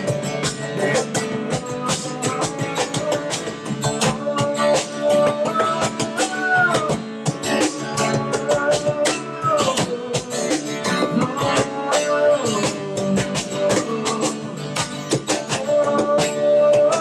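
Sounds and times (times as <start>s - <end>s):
acoustic guitar strumming: 0.0s - 17.0s
cajon beat: 0.0s - 17.0s.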